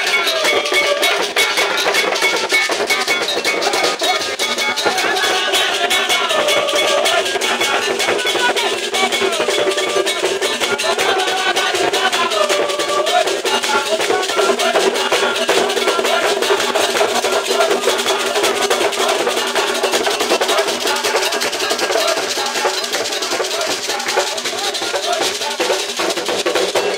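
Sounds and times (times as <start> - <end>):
group singing: 0.0 - 26.9
hand drums: 0.0 - 26.9.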